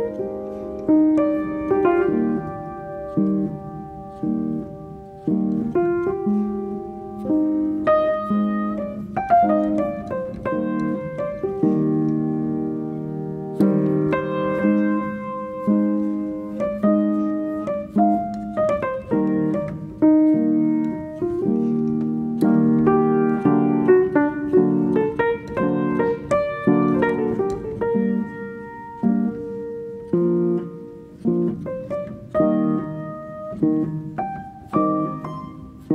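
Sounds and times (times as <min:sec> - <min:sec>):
slow solo piano melody: 0:00.0 - 0:35.9.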